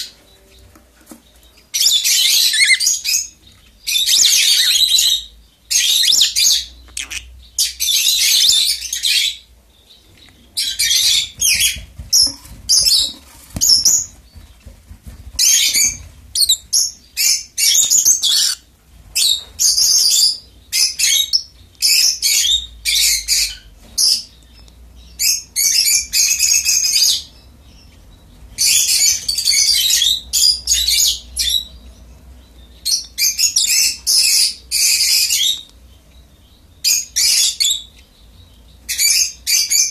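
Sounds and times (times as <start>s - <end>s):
lovebirds chattering shrilly: 0.0s - 14.4s, 15.0s - 39.9s.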